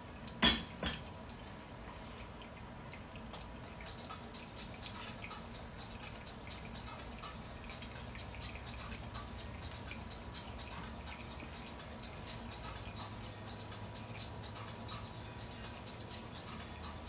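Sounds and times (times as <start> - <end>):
coffee dripping into glass: 0.2 - 17.0.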